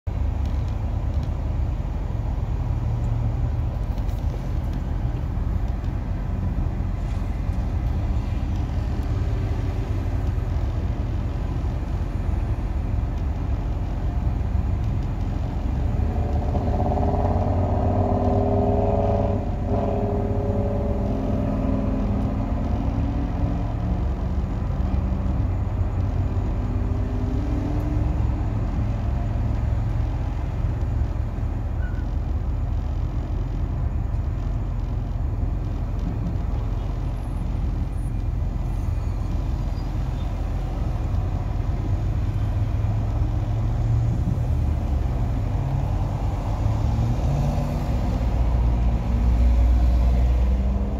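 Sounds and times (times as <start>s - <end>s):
muffled traffic rumble: 0.0s - 50.9s
louder engine hum with rising tones: 0.1s - 50.9s.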